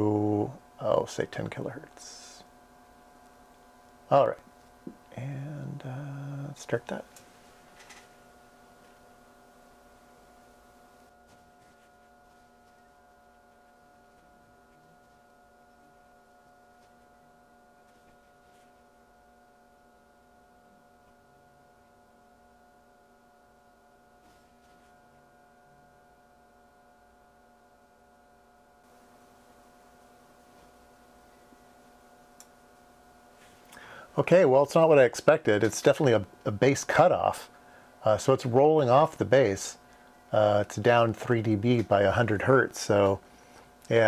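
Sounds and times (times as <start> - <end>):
faint electrical hum: 0.0 - 44.0.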